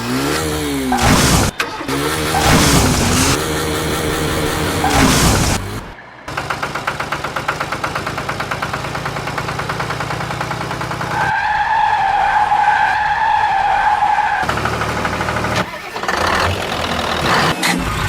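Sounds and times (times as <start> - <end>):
engine chugging: 0.0 - 11.3, 14.4 - 18.0.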